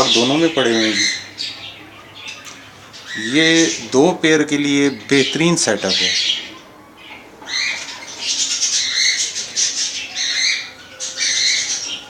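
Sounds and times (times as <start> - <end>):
budgerigars chirping harshly: 0.0 - 12.0.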